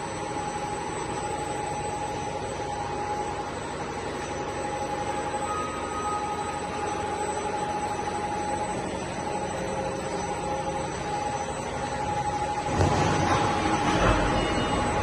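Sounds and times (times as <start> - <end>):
constant machine whine: 0.0 - 15.0
machine hum and hiss: 0.0 - 15.0.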